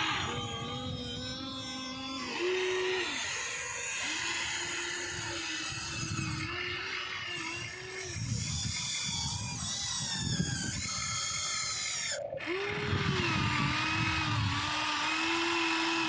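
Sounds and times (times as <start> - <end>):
model excavator motors whining: 0.0 - 16.0
rough low mechanical noise: 0.0 - 16.0.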